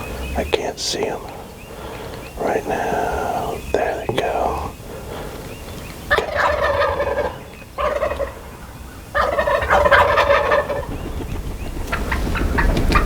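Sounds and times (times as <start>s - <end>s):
turkeys gobbling: 0.0s - 13.0s.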